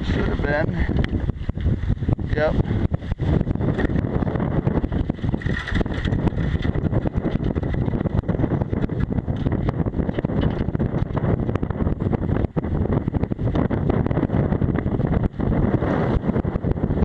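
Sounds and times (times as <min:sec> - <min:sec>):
rapid crackles: 0:00.0 - 0:13.9
wind buffeting microphone: 0:00.0 - 0:17.0.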